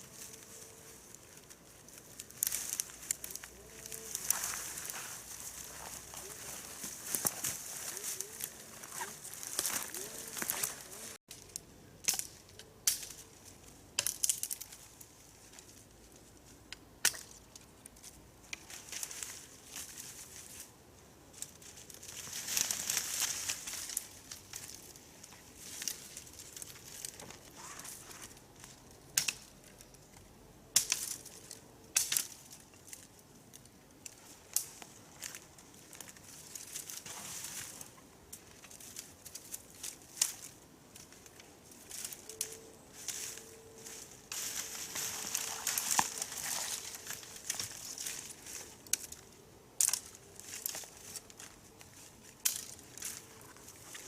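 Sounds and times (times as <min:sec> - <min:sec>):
leaves and twigs rustling: 0:00.0 - 0:54.0
twigs snapping: 0:00.2 - 0:15.0, 0:16.7 - 0:20.6, 0:21.4 - 0:54.0.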